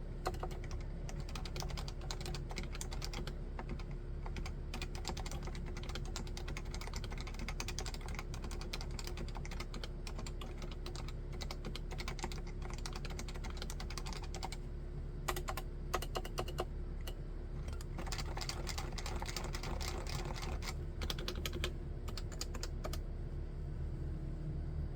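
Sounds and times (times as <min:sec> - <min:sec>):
fast typing on keyboard: 0:00.2 - 0:14.6, 0:15.3 - 0:16.7, 0:17.6 - 0:23.0.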